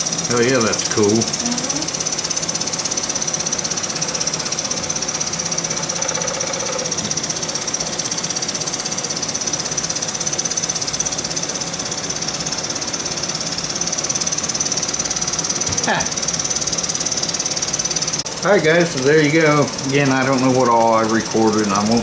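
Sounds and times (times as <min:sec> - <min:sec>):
toy steam engine beating: 0:00.0 - 0:22.0.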